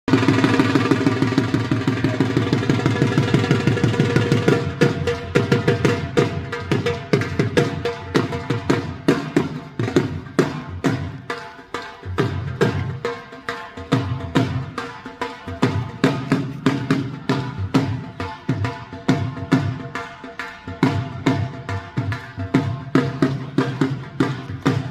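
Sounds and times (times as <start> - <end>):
dhol drumming: 0.1 - 24.9.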